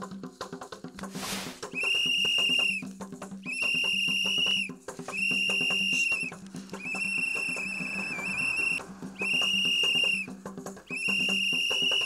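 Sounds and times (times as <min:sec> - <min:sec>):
quick hand percussion: 0:00.0 - 0:12.0
shrill whistle blasts: 0:01.6 - 0:12.0.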